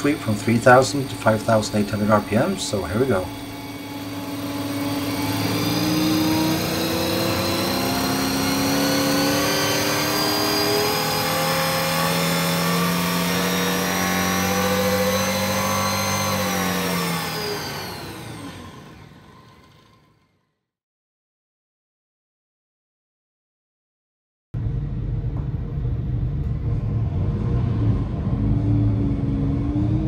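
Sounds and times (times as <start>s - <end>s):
aircraft engine revving: 0.0s - 20.2s, 24.6s - 30.0s.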